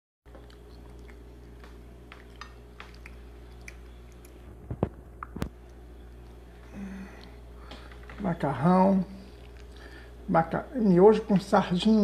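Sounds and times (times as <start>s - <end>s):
steady low hum: 0.3s - 12.0s.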